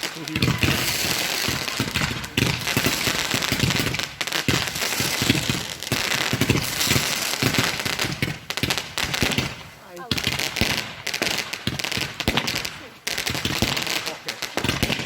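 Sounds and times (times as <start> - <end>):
firework crackling bangs: 0.0 - 15.0.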